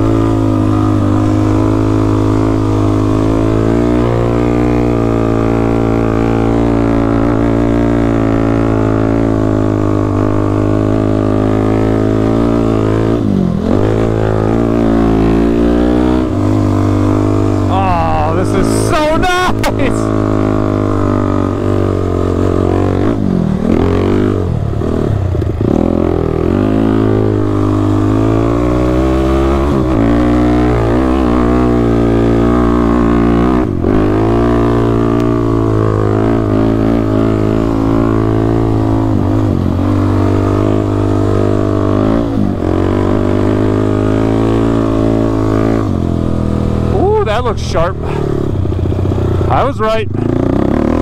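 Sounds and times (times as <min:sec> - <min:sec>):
atv engine revving: 0:00.0 - 0:51.0.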